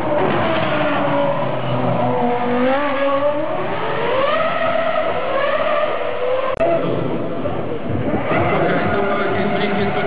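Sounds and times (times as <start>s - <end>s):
racing car engine: 0.0s - 10.0s.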